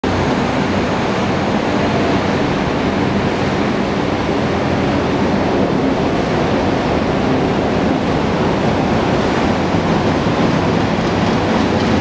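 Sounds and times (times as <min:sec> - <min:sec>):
low engine hum: 0:00.0 - 0:12.0
railway and traffic rumble: 0:00.0 - 0:12.0.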